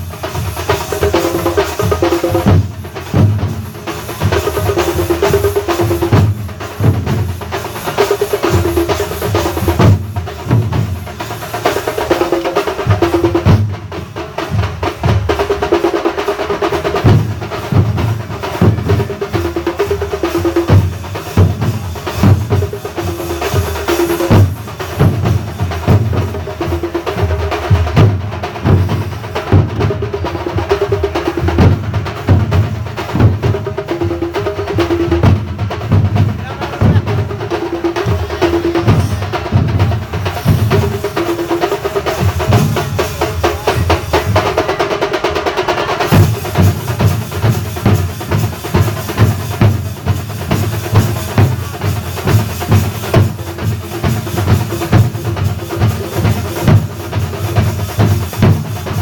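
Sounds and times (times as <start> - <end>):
drum ensemble playing: 0.0 - 59.0
heavy bass drum strokes: 0.0 - 59.0.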